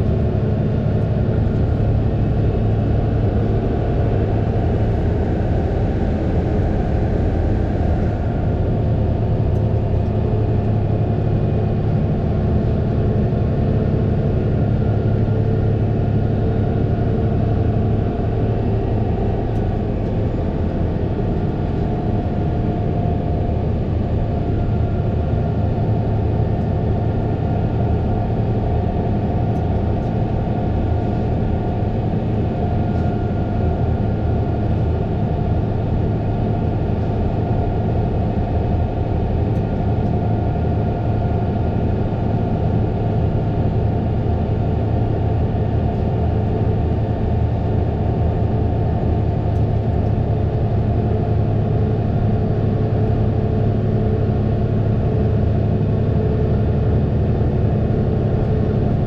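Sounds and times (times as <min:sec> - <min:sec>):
tractor diesel engine humming: 0:00.0 - 0:59.0.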